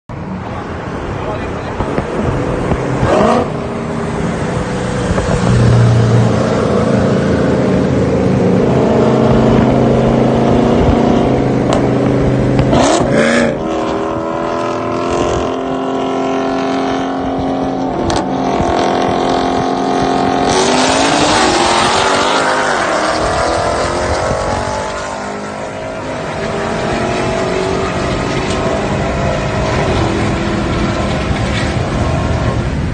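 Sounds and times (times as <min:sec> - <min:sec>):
engines revving: 0:00.1 - 0:32.9
rush of noise: 0:00.1 - 0:32.9.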